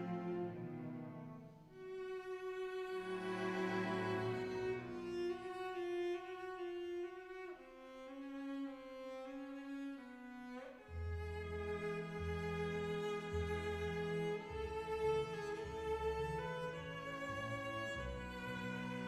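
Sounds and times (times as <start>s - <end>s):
cello notes: 0.0s - 19.0s
violin notes: 0.0s - 19.0s.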